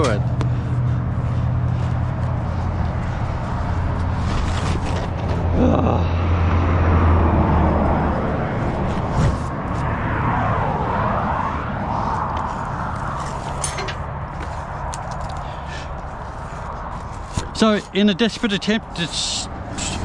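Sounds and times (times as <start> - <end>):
vehicles passing on road: 0.0 - 20.0.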